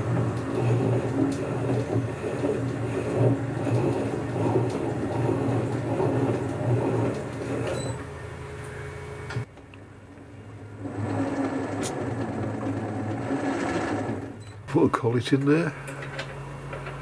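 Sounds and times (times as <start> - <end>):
metal lathe humming: 0.0 - 9.5, 10.6 - 15.0.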